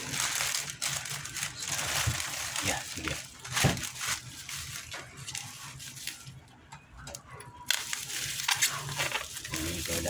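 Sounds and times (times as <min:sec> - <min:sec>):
packaging rustling and crinkling: 0:00.0 - 0:06.5, 0:07.6 - 0:10.0.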